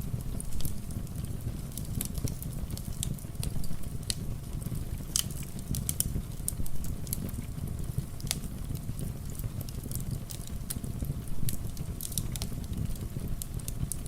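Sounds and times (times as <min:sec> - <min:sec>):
rain patter: 0:00.0 - 0:14.0
wood fire crackling: 0:00.0 - 0:14.0.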